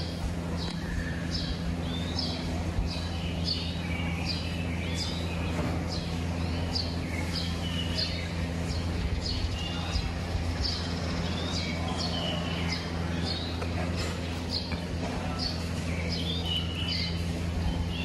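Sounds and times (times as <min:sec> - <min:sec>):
low machine hum: 0:00.0 - 0:18.0
small birds chirping: 0:00.0 - 0:18.0.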